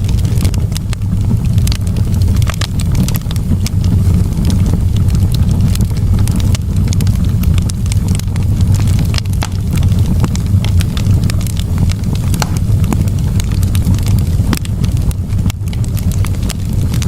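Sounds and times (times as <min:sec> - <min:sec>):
campfire crackling and popping: 0:00.0 - 0:17.0
low steady rumble: 0:00.0 - 0:17.0.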